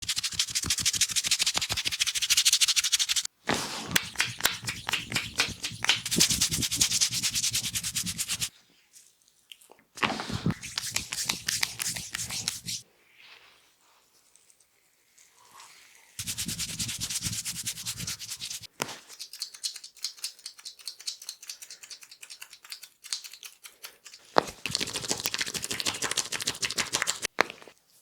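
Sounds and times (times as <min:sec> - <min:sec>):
hands rubbing and slapping skin: 0:00.0 - 0:08.5, 0:10.0 - 0:12.8, 0:16.2 - 0:27.8.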